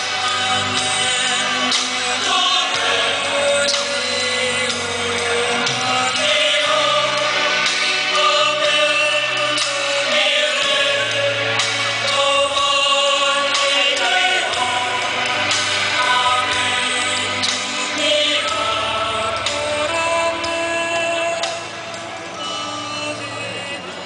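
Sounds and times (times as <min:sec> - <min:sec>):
choir singing sustained notes: 0:00.0 - 0:24.0.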